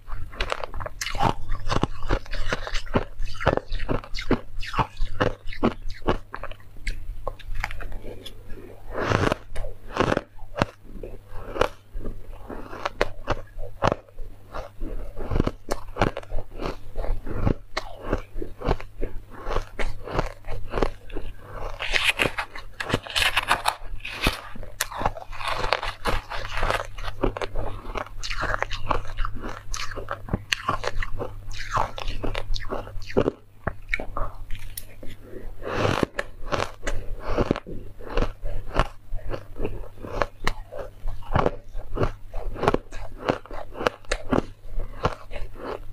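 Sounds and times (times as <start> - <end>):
ice being chewed: 0.0 - 45.9
steady low hum: 0.0 - 45.9.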